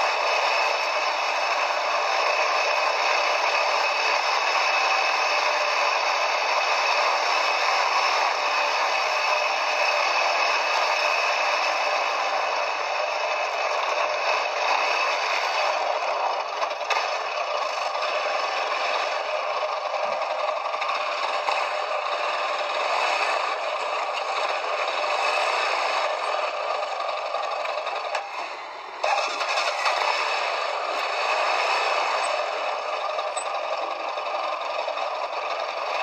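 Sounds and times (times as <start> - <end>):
quad bike rattling over rough track: 0.0 - 36.0.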